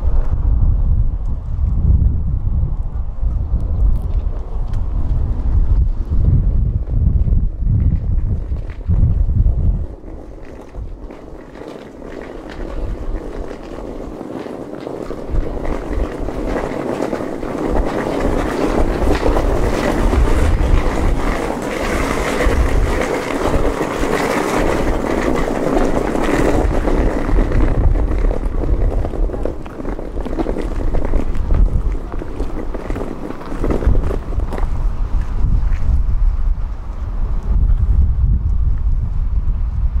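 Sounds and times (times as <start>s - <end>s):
wind rumbling on microphone: 0.0s - 40.0s.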